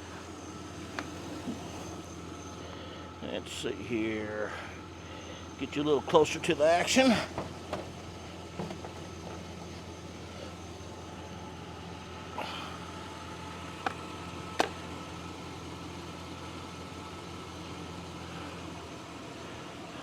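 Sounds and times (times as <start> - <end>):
pickup truck engine idling: 0.0 - 20.0.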